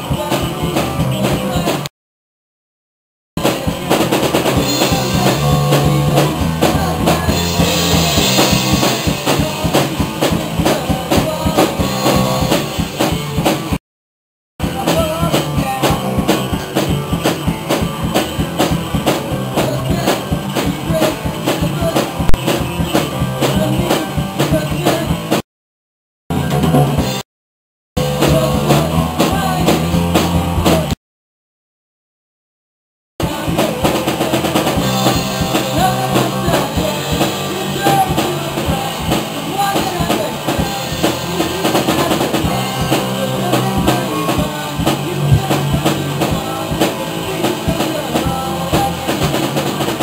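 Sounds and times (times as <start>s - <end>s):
drum kit fast beat: 0.0s - 1.9s, 3.4s - 13.8s, 14.6s - 25.4s, 26.3s - 27.2s, 28.0s - 31.0s, 33.2s - 50.0s
electric bass: 0.0s - 1.9s, 3.4s - 13.8s, 14.6s - 25.4s, 26.3s - 27.2s, 28.0s - 31.0s, 33.2s - 50.0s
electric guitar: 3.4s - 13.8s, 14.6s - 25.4s, 28.0s - 31.0s, 33.2s - 50.0s.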